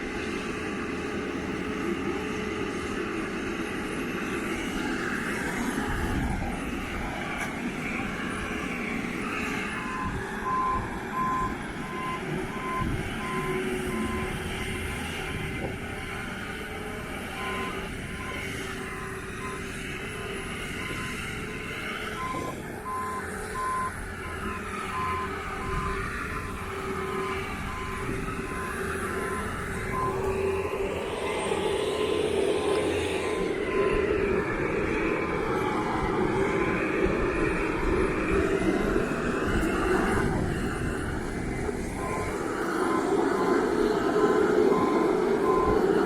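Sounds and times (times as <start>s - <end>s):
lift engine running: 0.0s - 46.0s
reversing alarm beeping: 8.2s - 46.0s.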